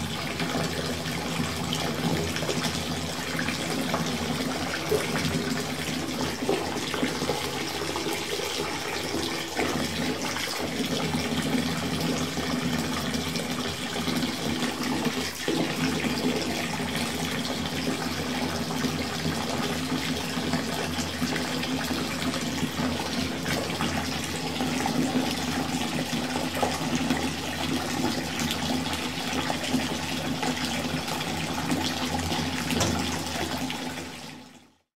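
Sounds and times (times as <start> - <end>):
water running into bath: 0.0 - 34.8.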